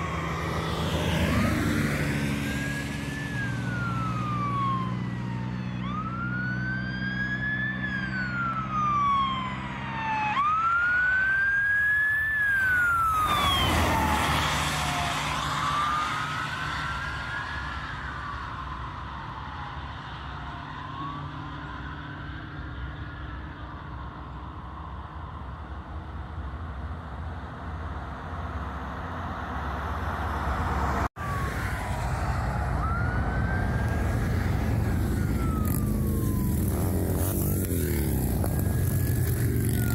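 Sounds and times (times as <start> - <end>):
emergency siren wailing: 0.0 - 25.4, 29.8 - 39.9
engine and tyre noise: 0.0 - 39.9.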